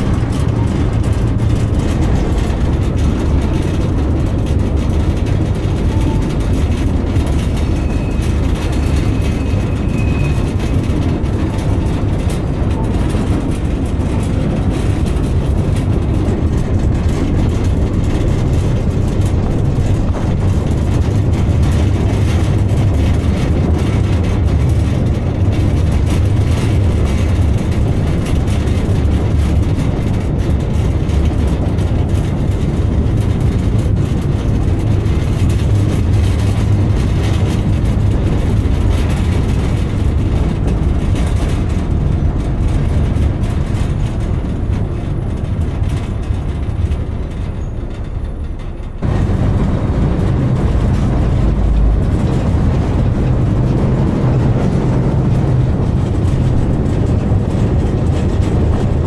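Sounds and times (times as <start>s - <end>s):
train rumbling: 0.0s - 59.0s.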